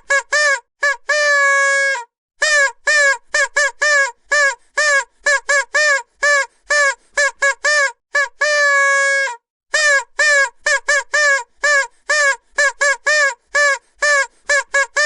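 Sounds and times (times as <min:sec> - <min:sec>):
vuvuzela toots: 0:00.0 - 0:15.0.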